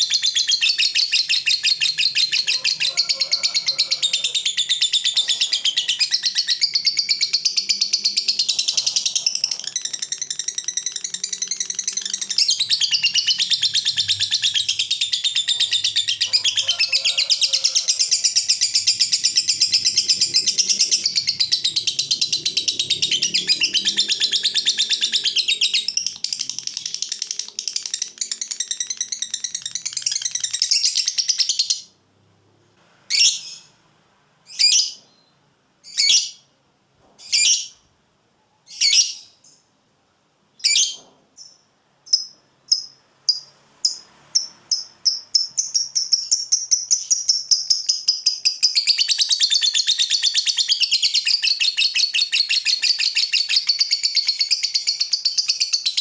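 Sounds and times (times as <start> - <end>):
lovebird chattering trill: 0.0 - 31.8, 42.1 - 56.0.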